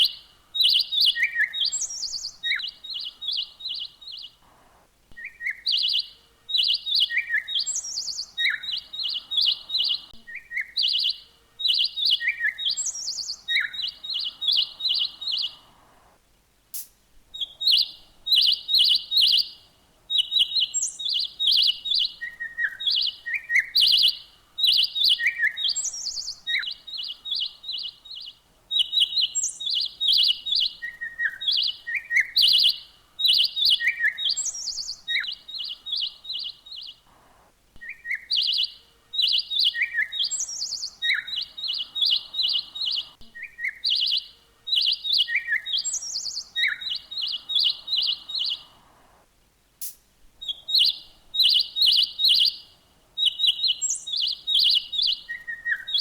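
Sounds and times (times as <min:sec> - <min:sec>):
bird chirping song: 0:00.0 - 0:16.2, 0:17.2 - 0:49.3, 0:50.3 - 0:56.0.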